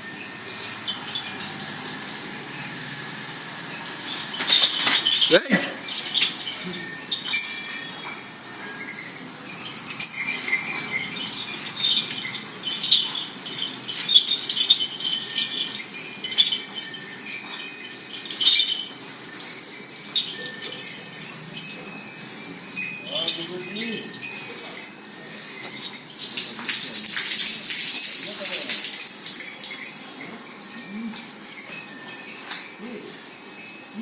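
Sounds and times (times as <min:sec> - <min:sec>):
small metal bells jingling: 0:00.0 - 0:34.0.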